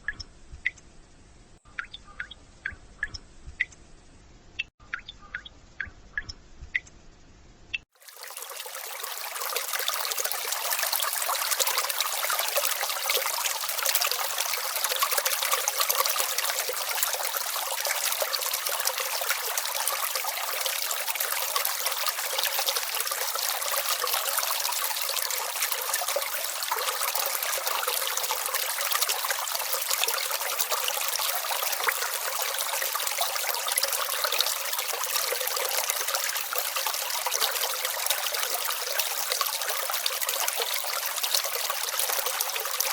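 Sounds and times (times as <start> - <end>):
brook babbling: 7.9 - 42.9.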